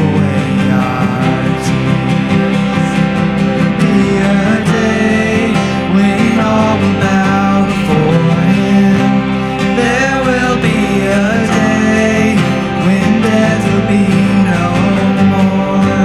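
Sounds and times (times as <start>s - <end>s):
people singing: 0.0s - 16.0s
worship band playing: 0.0s - 16.0s.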